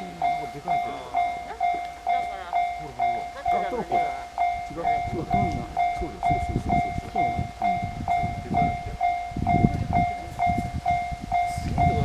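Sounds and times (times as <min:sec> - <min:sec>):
level crossing bell ringing: 0:00.0 - 0:12.0
train rumbling: 0:00.0 - 0:12.0.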